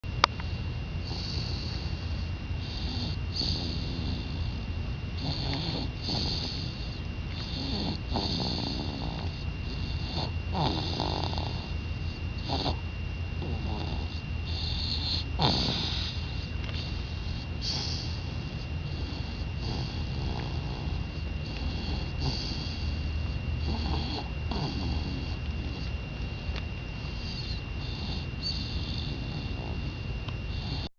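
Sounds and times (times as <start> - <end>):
breathy snores: 1.0 - 4.6, 5.2 - 12.8, 13.4 - 25.9, 27.0 - 30.9.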